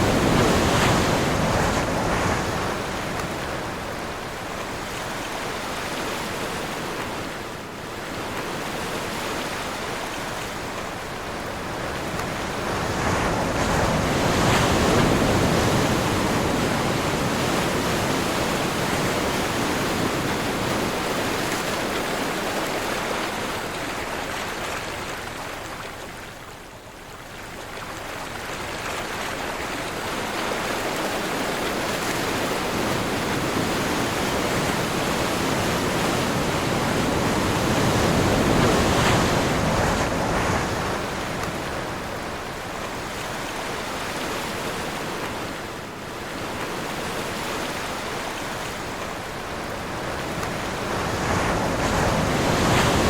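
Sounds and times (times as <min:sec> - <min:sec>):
ocean waves breaking: 0:00.0 - 0:25.8, 0:27.5 - 0:53.0
wind: 0:00.0 - 0:53.0.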